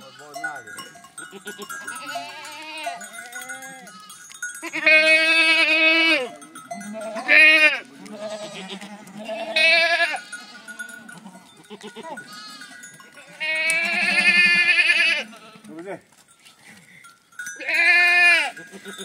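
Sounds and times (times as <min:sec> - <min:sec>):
faint bleats of other animals: 0:00.0 - 0:00.6, 0:01.2 - 0:15.9, 0:17.6 - 0:19.0
loud quavering bleats: 0:01.2 - 0:15.7, 0:17.6 - 0:19.0.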